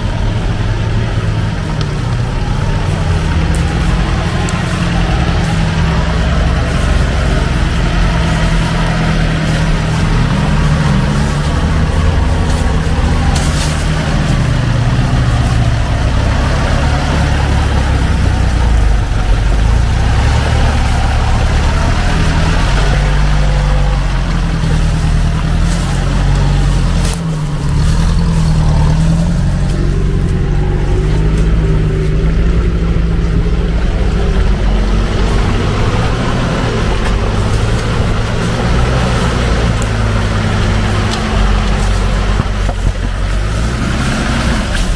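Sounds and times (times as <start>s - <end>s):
truck engines revving: 0.0s - 44.9s.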